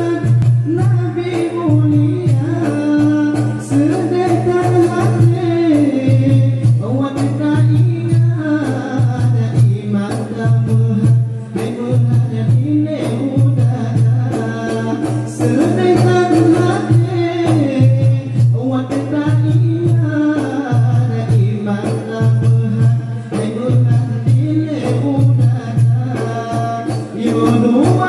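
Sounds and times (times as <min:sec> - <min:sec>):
frame drums beating: 0:00.0 - 0:28.0
man singing: 0:00.0 - 0:28.0.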